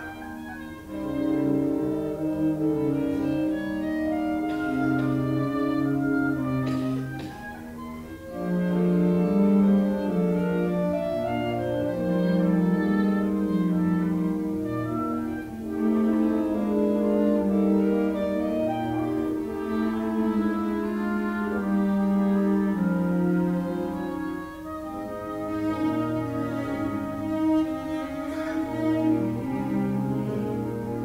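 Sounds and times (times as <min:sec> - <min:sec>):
concert band accompaniment: 0:00.0 - 0:31.0
solo cello melody: 0:00.0 - 0:31.0.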